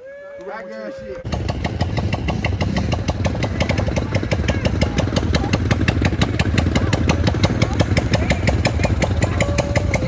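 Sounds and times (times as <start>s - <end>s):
quad bike engine running: 1.2s - 10.0s.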